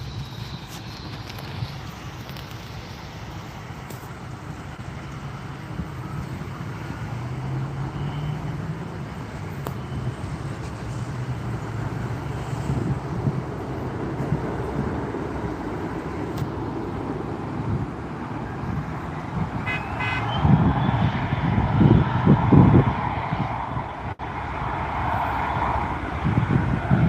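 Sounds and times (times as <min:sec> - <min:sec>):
jet aircraft engine rumble: 0:00.0 - 0:07.2, 0:08.7 - 0:27.0.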